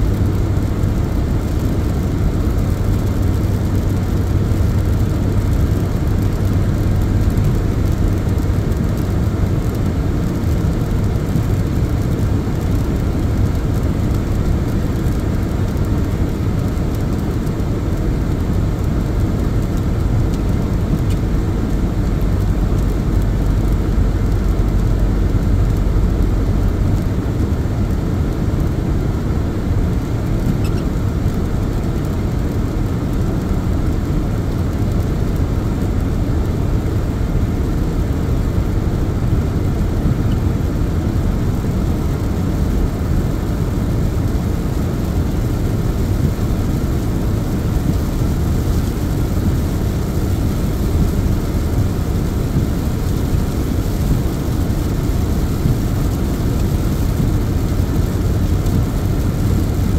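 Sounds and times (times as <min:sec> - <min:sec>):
car road noise from inside: 0:00.0 - 0:59.9.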